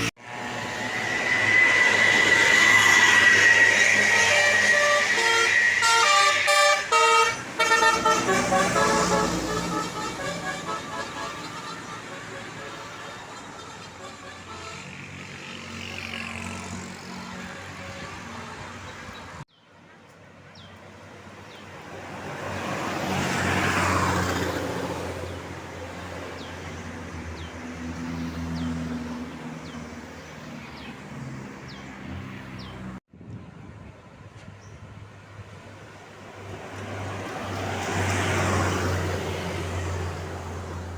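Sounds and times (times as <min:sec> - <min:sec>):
bus passing close by: 0:00.0 - 0:33.0, 0:34.9 - 0:40.9
road traffic engines: 0:00.0 - 0:40.9.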